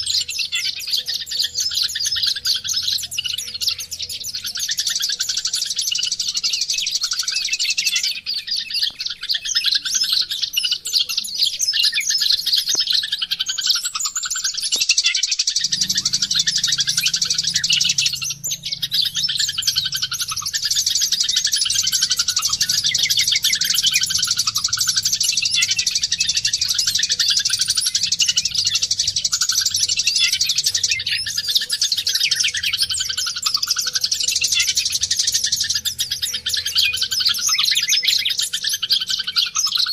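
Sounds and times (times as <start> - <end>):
bird twittering chirps and warbles: 0.0 - 39.9.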